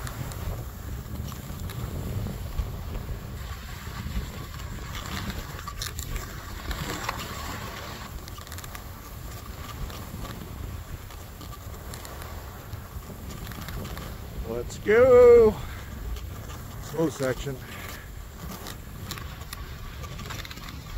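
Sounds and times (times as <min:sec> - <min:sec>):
sliding over packed snow: 0:00.0 - 0:20.9
wind on microphone: 0:00.0 - 0:20.9.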